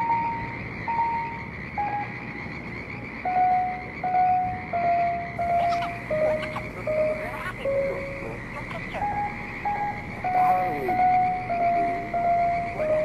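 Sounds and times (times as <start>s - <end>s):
steady beeping tones: 0.0s - 13.0s.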